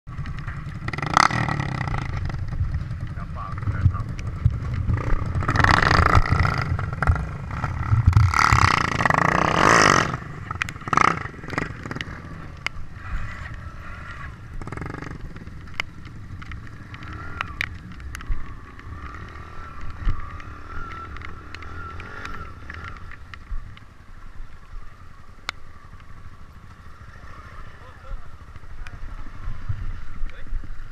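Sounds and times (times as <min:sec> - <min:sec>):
motorcycle engine running: 0:00.1 - 0:30.9.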